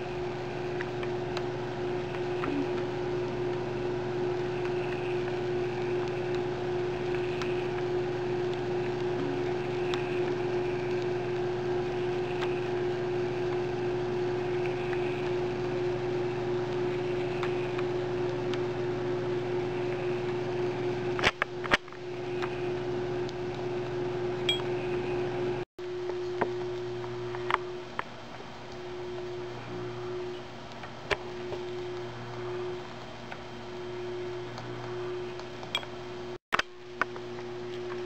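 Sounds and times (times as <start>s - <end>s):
pump motor whine and hum: 0.0s - 38.0s.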